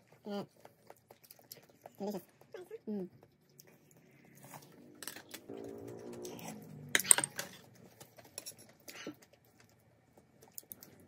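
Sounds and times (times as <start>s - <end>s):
low steady hum: 1.6s - 11.0s.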